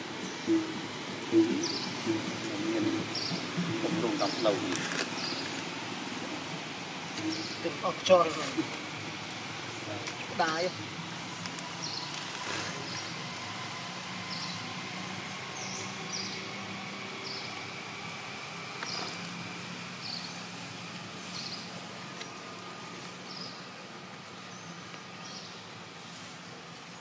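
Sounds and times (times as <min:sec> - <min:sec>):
background hiss: 0:00.0 - 0:27.0
steady low hum: 0:00.0 - 0:27.0.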